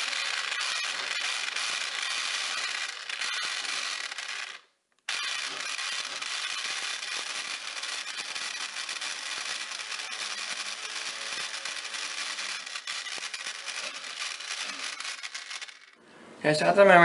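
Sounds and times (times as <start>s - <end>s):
blade grinding dried leaves: 0.0s - 16.0s
food processor whirring: 0.0s - 16.0s.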